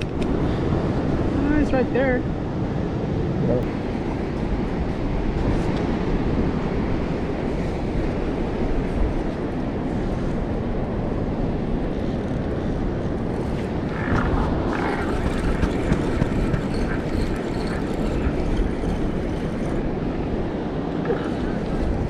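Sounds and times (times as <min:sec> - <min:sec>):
ocean surf at the shore: 0:00.0 - 0:22.0
wind: 0:00.0 - 0:22.0.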